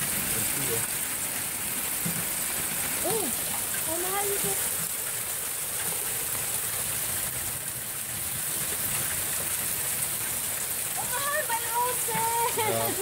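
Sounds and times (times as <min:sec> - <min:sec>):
hailstones ticking: 0:00.0 - 0:13.0
rain pelting on roofs: 0:00.0 - 0:13.0.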